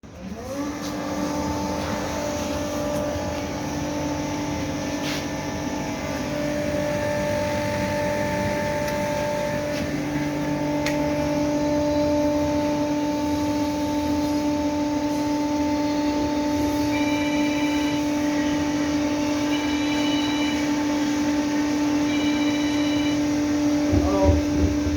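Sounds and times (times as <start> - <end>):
furnace hum and rush: 0.0 - 24.9.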